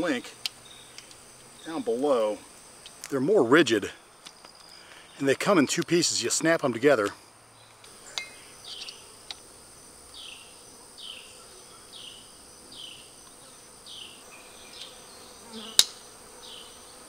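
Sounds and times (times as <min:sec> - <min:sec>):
high insect whine: 0:00.0 - 0:05.3, 0:06.2 - 0:17.0.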